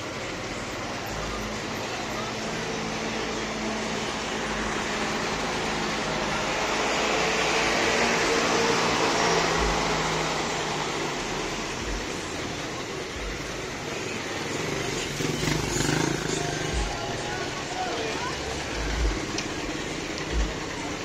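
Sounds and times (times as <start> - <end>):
diesel engine passing: 0.0 - 21.0
street traffic: 0.0 - 21.0.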